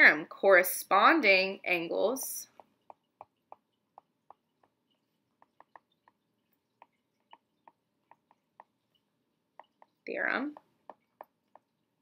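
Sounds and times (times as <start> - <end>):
stylus tapping on tablet screen: 2.4 - 12.0.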